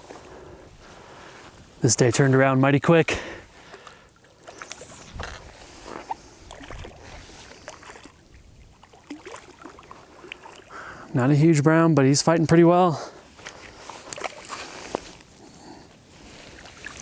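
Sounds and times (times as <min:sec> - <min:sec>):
stream water splashing: 0:02.2 - 0:15.4, 0:16.1 - 0:17.0.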